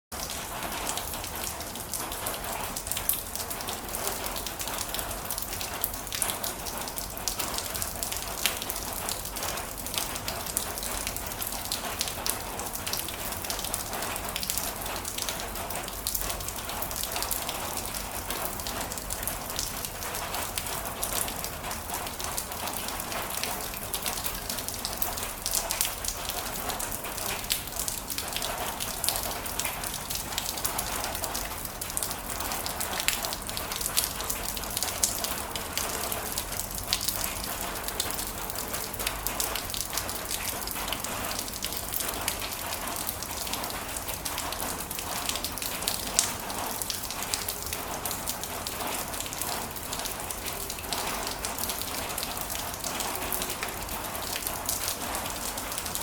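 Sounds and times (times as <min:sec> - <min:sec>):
heavy rain: 0:00.1 - 0:56.0
raindrops ticking on a surface: 0:00.1 - 0:56.0.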